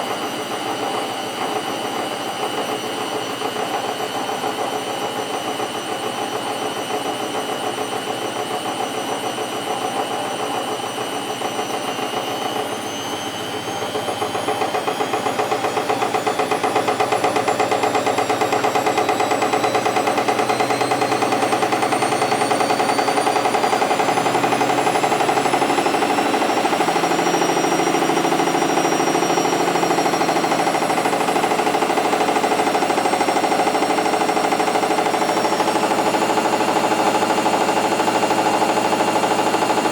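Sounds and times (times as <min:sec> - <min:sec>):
washing machine spinning: 0:00.0 - 0:39.9
whistling whine rising: 0:00.0 - 0:39.9.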